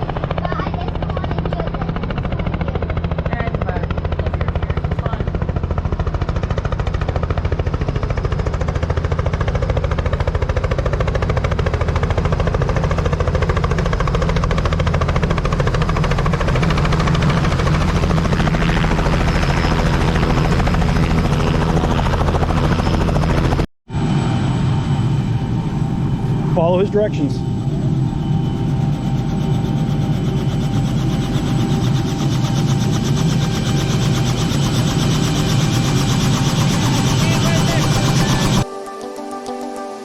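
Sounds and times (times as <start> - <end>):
helicopter rotor chop: 0.0 - 38.7
helicopter engine: 0.0 - 40.0.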